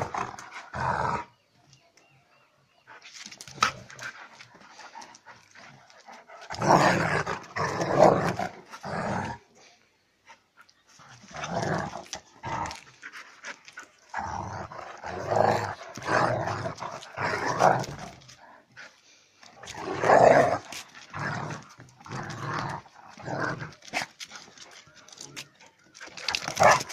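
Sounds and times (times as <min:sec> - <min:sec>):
dogs growling in play: 0:00.0 - 0:01.5, 0:03.3 - 0:25.2.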